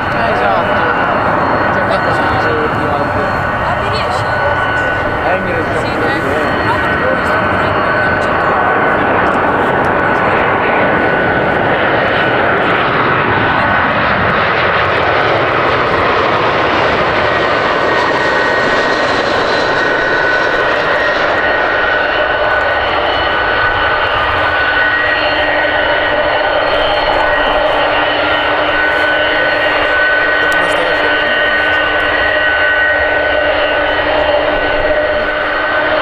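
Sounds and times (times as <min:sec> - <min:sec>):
jet engines whining: 0:00.0 - 0:36.0.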